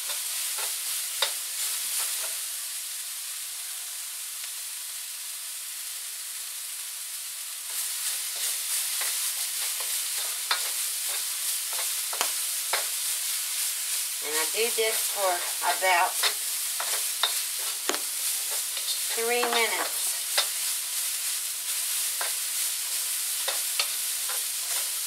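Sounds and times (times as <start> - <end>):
broccoli sizzling in a wok: 0.0 - 25.0.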